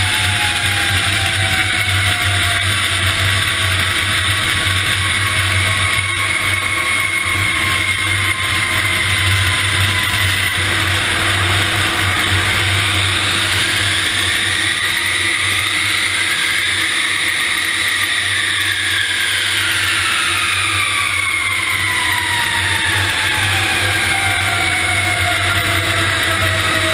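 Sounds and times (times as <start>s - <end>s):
airliner jet engine roar: 0.0s - 26.9s
jet engine whine: 0.0s - 26.9s.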